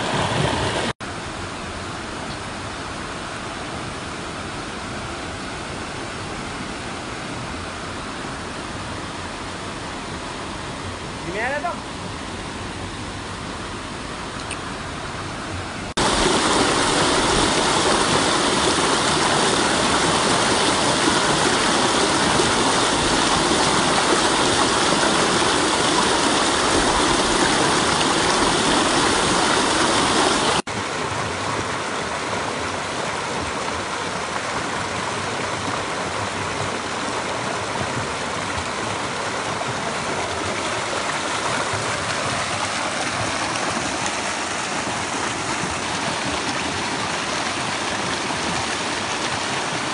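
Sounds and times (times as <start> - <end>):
water rushing over rocks: 0.0 - 49.9.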